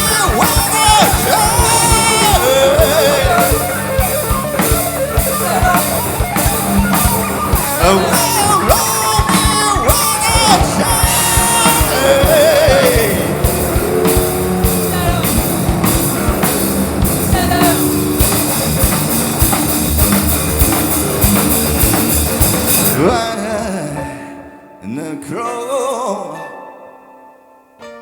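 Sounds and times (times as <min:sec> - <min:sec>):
person singing: 0:00.0 - 0:18.8, 0:22.8 - 0:26.7
pounding drum kit: 0:00.0 - 0:23.4
distorted electric guitars: 0:00.0 - 0:23.8
hard rock band playing: 0:00.0 - 0:24.0.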